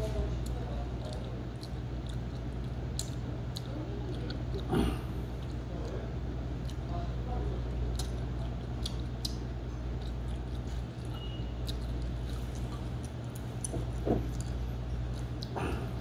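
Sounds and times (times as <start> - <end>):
low room hum: 0.0 - 16.0
chewing with mouth clicks: 0.1 - 7.0, 7.6 - 16.0.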